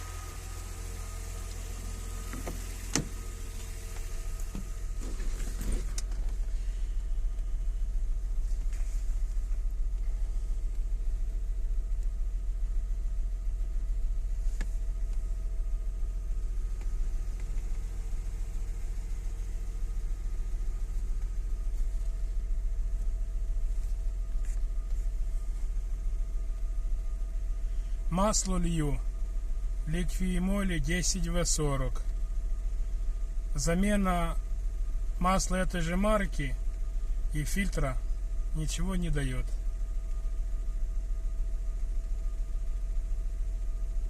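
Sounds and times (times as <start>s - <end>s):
car engine humming: 0.0s - 44.0s.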